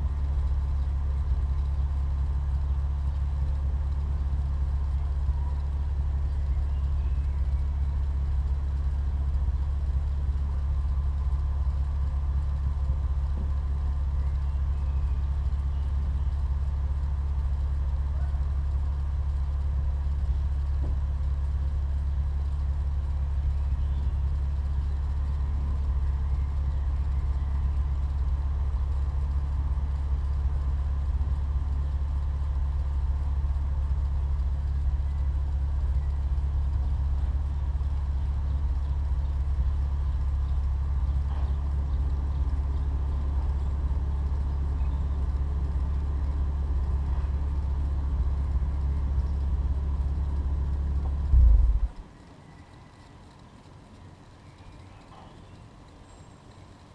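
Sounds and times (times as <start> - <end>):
car engine droning steadily: 0.0 - 56.9.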